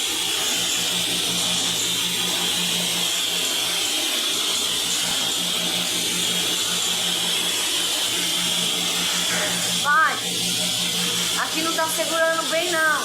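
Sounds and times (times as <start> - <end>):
power tool motor whine: 0.0 - 13.0.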